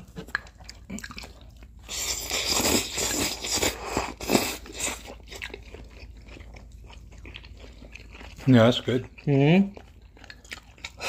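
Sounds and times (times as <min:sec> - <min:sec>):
noodles slurped: 0:00.0 - 0:11.0
soft chewing: 0:00.0 - 0:11.0.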